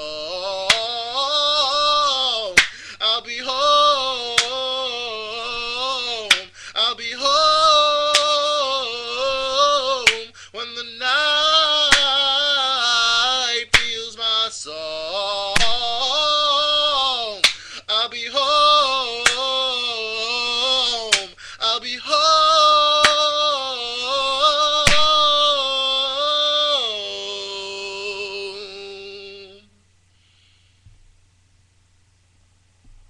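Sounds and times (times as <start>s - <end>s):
person singing wordless notes: 0.0s - 29.8s.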